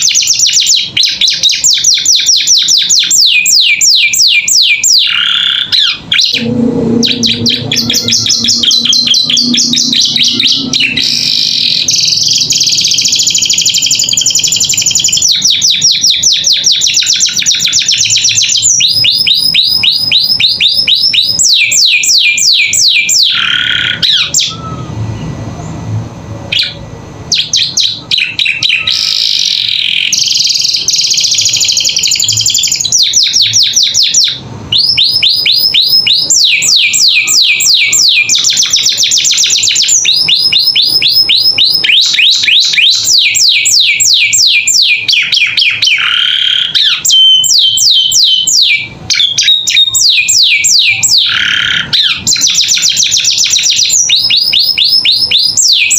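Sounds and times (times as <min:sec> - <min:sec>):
canary singing trills: 0:00.0 - 0:25.4, 0:26.5 - 0:55.9.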